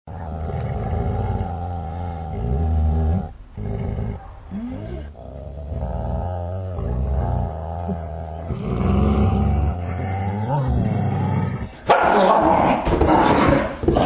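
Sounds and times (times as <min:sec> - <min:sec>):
dogs growling and snarling: 0:00.1 - 0:14.0.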